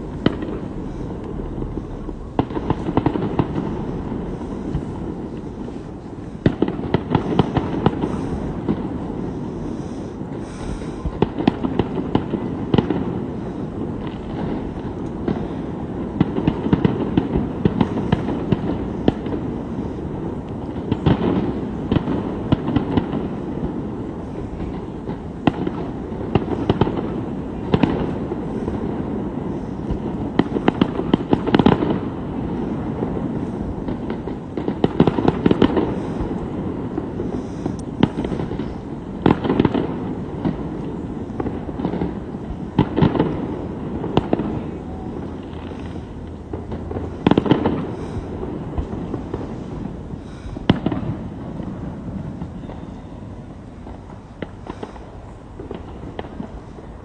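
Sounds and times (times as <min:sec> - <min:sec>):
continuous rumble: 0:00.0 - 0:57.0
fireworks bangs and crackles: 0:00.0 - 0:57.0.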